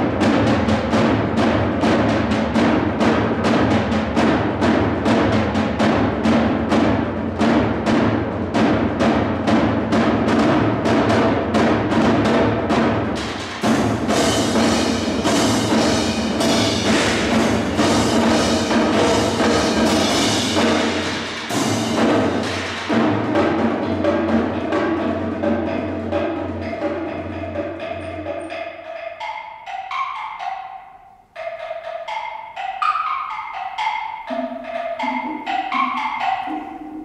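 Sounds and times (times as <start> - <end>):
percussion ensemble drumming: 0.0 - 37.0.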